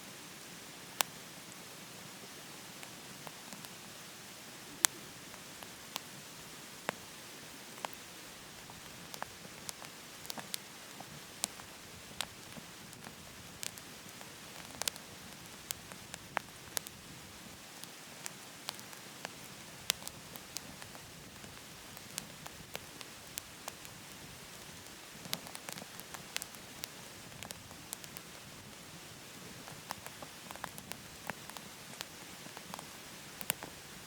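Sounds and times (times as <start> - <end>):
firewood crackling and popping: 0.9 - 3.9, 4.6 - 34.0.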